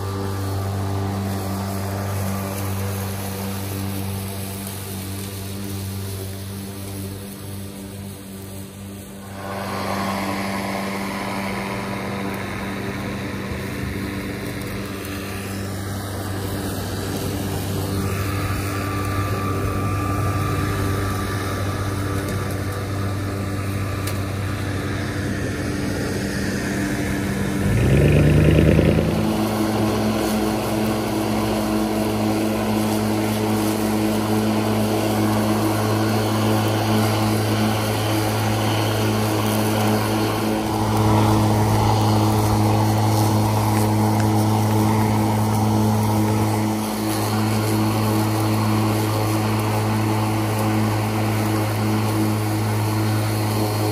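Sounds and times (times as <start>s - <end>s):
electric mower motor humming: 0.0s - 53.9s.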